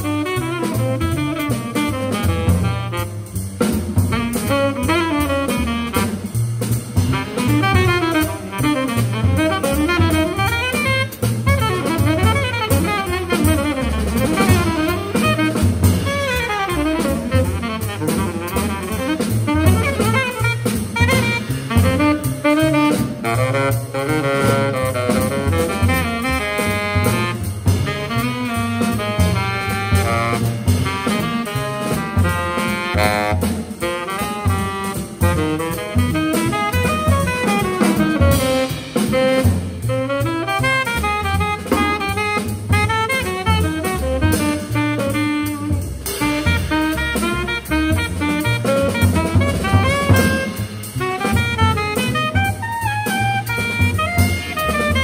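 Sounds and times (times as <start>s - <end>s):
drum kit cymbals: 0.0s - 55.0s
plucked double bass: 0.0s - 55.0s
tenor saxophone melody: 0.0s - 55.0s.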